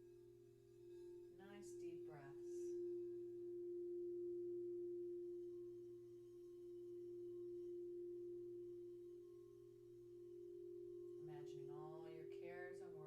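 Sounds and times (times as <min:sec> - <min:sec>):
singing bowl tone: 0:00.0 - 0:13.0.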